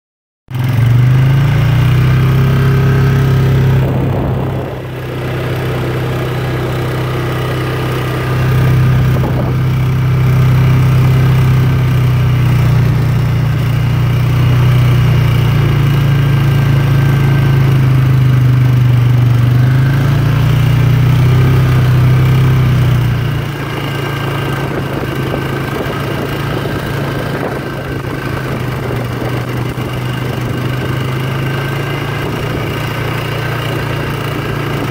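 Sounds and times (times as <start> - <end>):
atv engine under throttle: 0.5 - 34.9.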